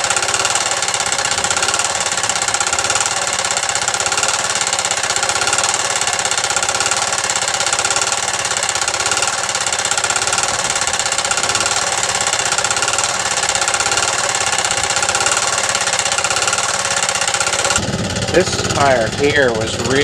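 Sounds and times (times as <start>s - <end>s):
air compressor engine pulsing: 0.0s - 20.0s.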